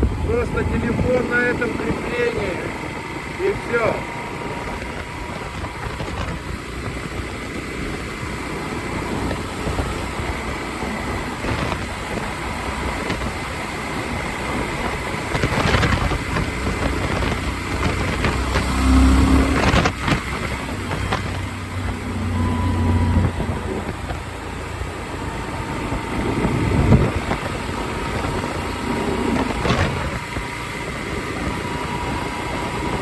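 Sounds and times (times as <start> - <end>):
motorcycle engine: 0.0 - 33.0
road noise: 0.0 - 33.0
wind buffeting microphone: 0.0 - 33.0.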